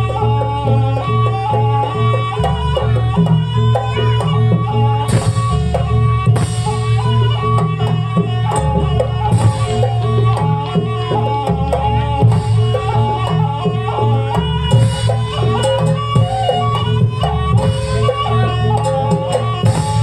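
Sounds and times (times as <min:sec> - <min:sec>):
drums: 0:00.0 - 0:20.0
heavy bass: 0:00.0 - 0:20.0.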